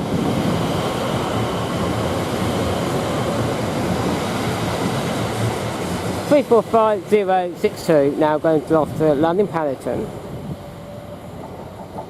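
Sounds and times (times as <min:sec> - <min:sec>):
electric train wheels rumbling on rail: 0:00.0 - 0:12.0.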